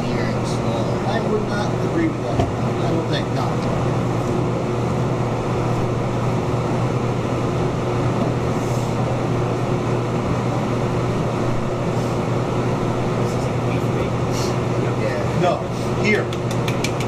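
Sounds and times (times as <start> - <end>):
ventilation hum and rushing: 0.0 - 17.0.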